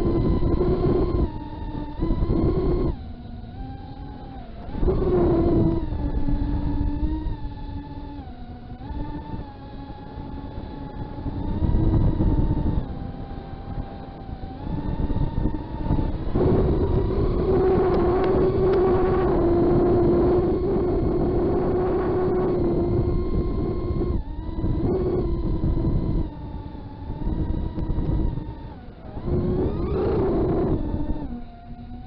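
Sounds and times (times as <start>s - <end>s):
drone motors whining: 0.0s - 32.0s
wind rumble: 0.0s - 32.0s.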